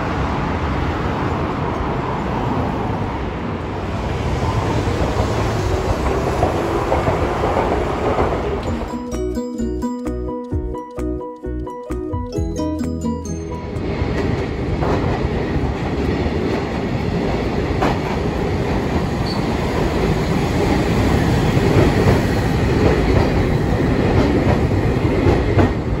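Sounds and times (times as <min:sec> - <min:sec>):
tram running on rails: 0:00.0 - 0:26.0.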